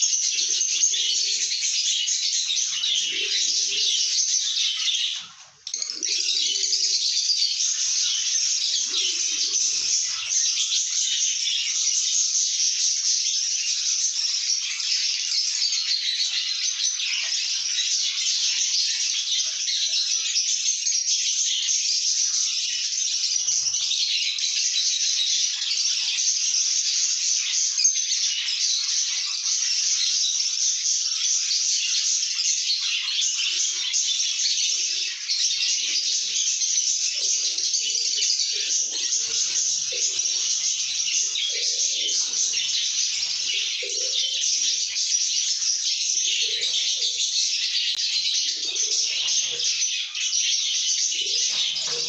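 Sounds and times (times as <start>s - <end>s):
birds chattering: 0.0s - 52.0s.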